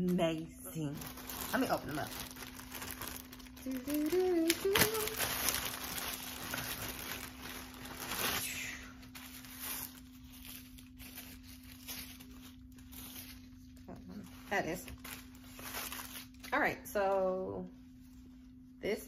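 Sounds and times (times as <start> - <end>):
plastic bag crinkling and rustling: 0.0 - 16.8.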